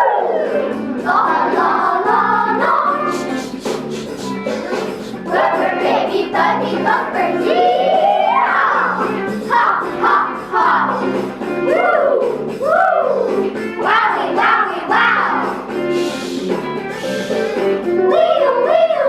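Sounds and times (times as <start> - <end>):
children's choir singing: 0.0 - 16.4, 17.0 - 19.0
instrumental accompaniment: 0.0 - 19.0.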